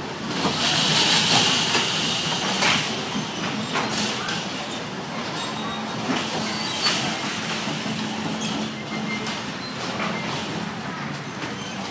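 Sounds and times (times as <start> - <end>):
bumper cars hum and rumble: 0.0 - 11.9.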